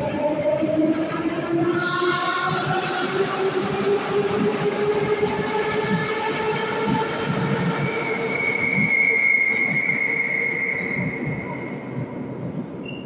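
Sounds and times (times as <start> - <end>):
high-pitched whine: 0.0 - 12.4
train wheels rumbling and clattering: 0.0 - 13.0.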